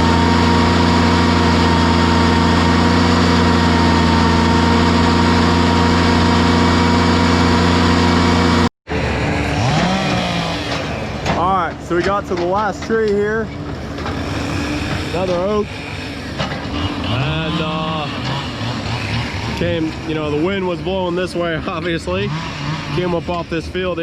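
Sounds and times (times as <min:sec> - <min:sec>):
engine rising and falling in pitch: 0:00.0 - 0:11.8, 0:13.6 - 0:24.0
heavy machinery engine running: 0:00.0 - 0:24.0
steady whine: 0:00.0 - 0:24.0.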